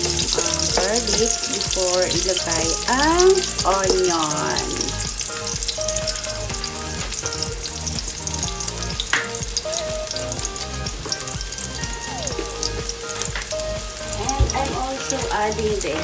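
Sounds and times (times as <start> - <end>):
garlic sizzling in hot oil: 0.0 - 16.0.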